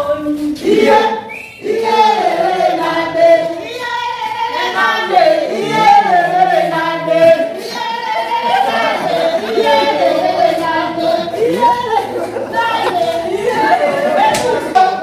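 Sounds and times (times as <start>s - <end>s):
group of people singing: 0.0s - 15.0s.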